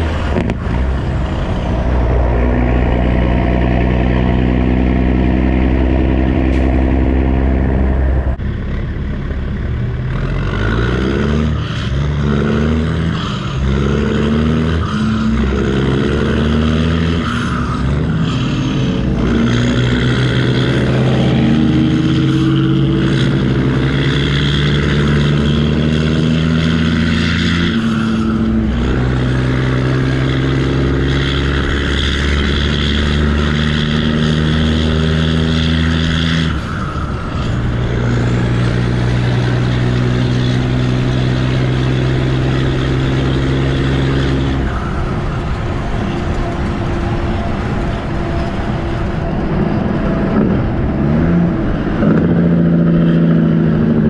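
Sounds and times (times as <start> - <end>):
diesel truck engine accelerating: 0.0 - 54.0.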